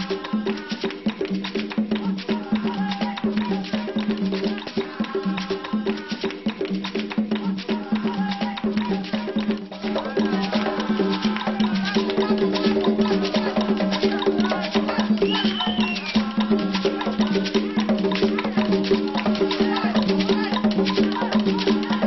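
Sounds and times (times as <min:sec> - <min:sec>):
upbeat latin dance music: 0:00.0 - 0:22.0.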